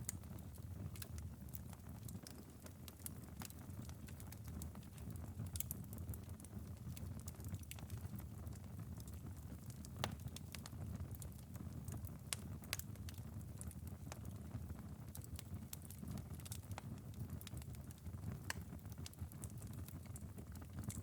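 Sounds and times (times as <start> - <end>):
fireplace embers crackling: 0.0 - 21.0.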